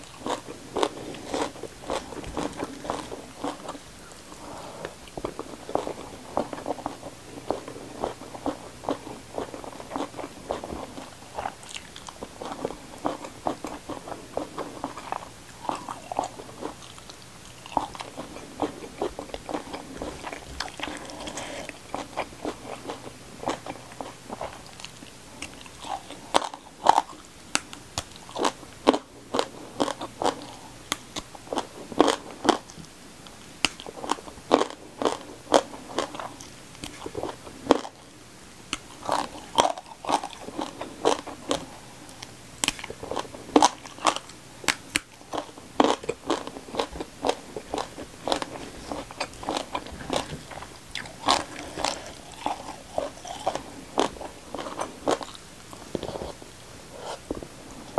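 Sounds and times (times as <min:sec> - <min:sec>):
person chewing crunchy food: 0:00.0 - 0:32.9, 0:33.6 - 0:38.1, 0:38.7 - 0:57.9.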